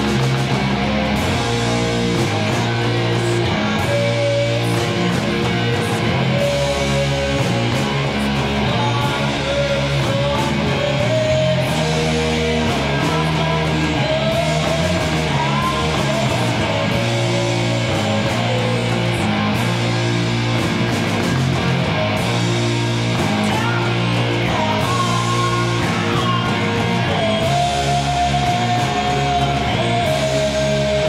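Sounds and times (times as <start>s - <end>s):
bass guitar low notes: 0.0s - 31.0s
electric guitar: 0.0s - 31.0s.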